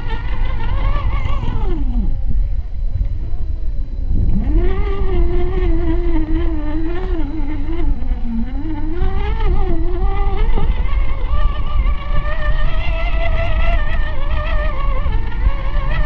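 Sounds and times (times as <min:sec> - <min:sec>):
electric motor whining: 0:00.0 - 0:16.0
low rumbling noise: 0:00.0 - 0:16.0.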